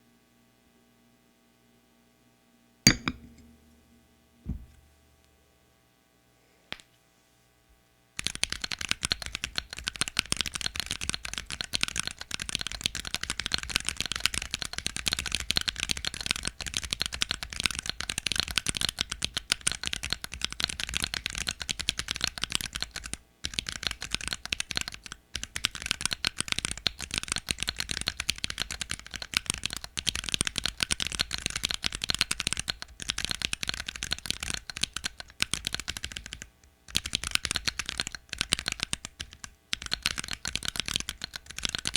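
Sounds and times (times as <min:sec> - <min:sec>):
fast mechanical keyboard typing: 0:08.2 - 0:41.9.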